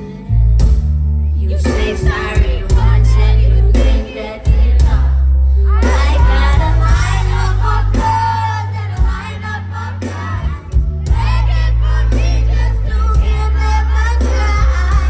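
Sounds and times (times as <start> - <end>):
amplified pop music with singer: 0.0 - 15.0
heavy booming bass: 0.0 - 15.0.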